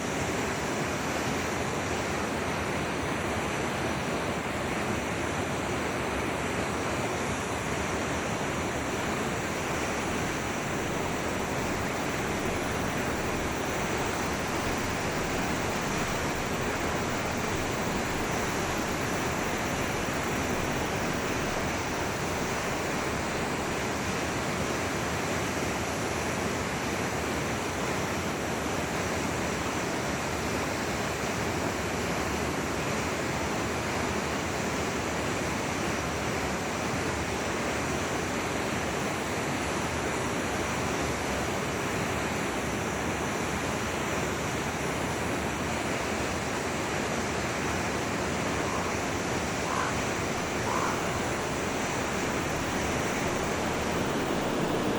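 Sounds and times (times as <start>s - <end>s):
forest stream rushing: 0.0s - 54.9s.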